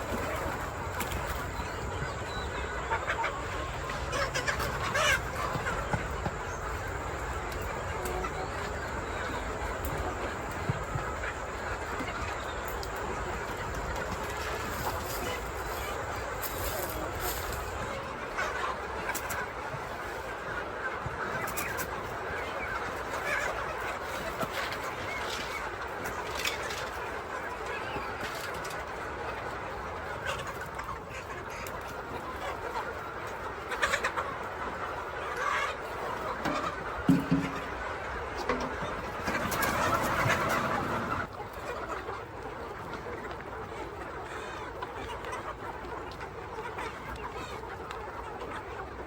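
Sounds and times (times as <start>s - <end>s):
chickens clucking: 0.0s - 49.0s
steady background noise: 0.0s - 49.0s.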